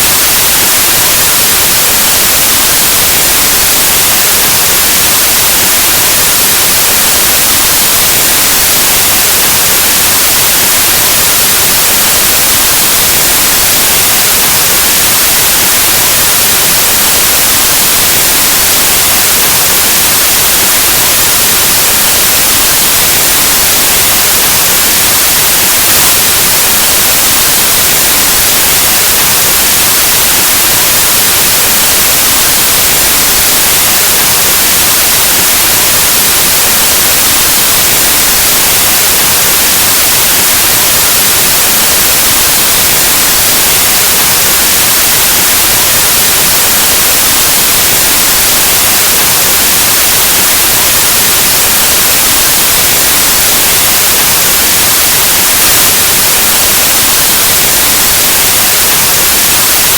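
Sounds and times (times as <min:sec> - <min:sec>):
white noise static hiss: 0:00.0 - 0:59.9.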